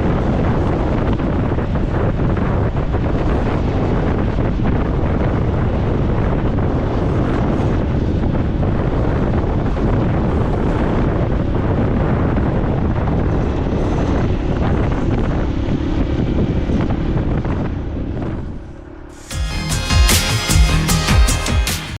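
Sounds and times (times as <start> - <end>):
wind buffeting microphone: 0.0 - 19.3
motorcycle running: 0.0 - 22.0.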